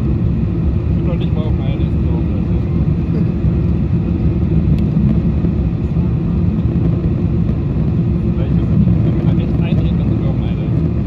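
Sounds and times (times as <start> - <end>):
airflow and engine drone: 0.0 - 11.0
airplane cabin rumble: 0.0 - 11.0.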